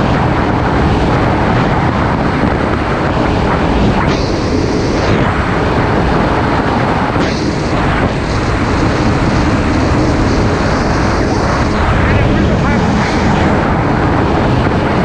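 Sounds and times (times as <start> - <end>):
water and wind rushing: 0.0 - 15.0.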